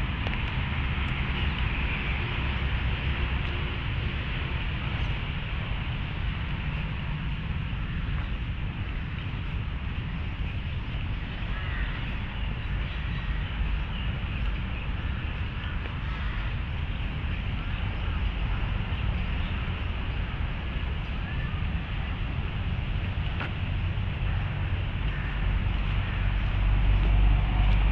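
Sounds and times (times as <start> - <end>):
distant city traffic rumble: 0.0 - 27.9.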